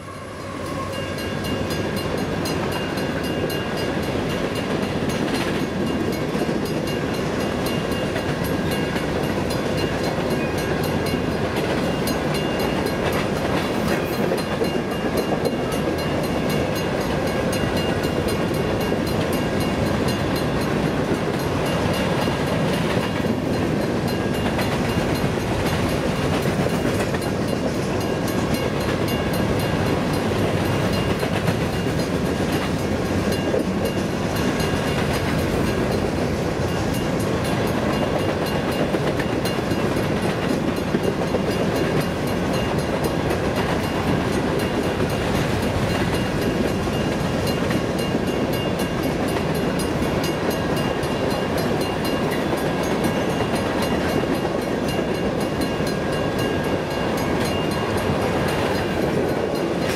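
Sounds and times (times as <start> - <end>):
crossing warning bell ringing: 0.0 - 59.9
freight train wheels clacking: 0.0 - 59.9.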